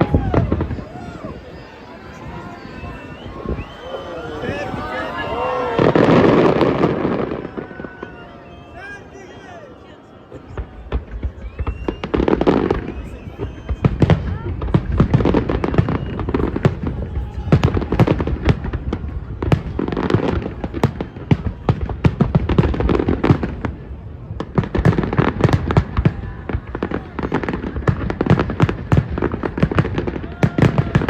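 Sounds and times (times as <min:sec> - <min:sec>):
fireworks bangs and crackles: 0:00.0 - 0:09.5, 0:10.2 - 0:31.0.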